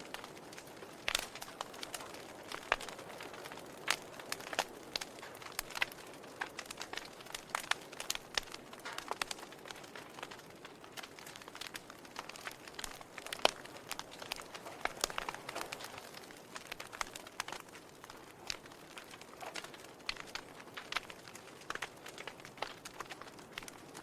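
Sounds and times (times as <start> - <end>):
sharp pops and snaps: 0.0 - 24.0
soft hiss of fire: 0.0 - 24.0
wood fire crackling: 0.0 - 24.0.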